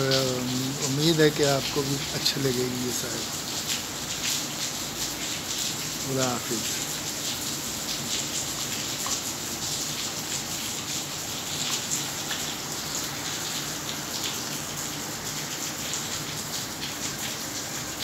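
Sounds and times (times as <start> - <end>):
rain splashing into water: 0.0 - 18.0.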